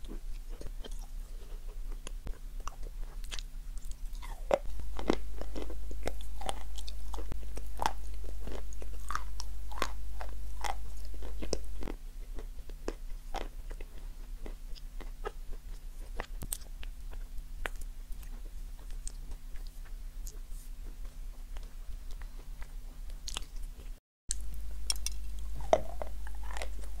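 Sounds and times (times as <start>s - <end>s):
chewing crunchy marshmallow: 0.0s - 27.0s
steady low hum: 0.0s - 27.0s.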